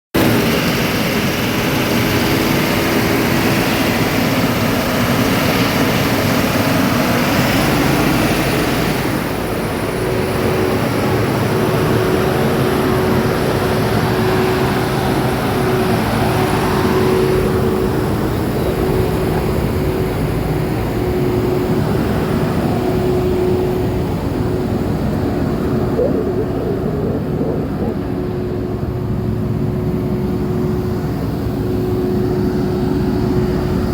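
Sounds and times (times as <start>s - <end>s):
constant hum: 0.2s - 33.9s
vehicle engine rumbling: 2.4s - 33.9s.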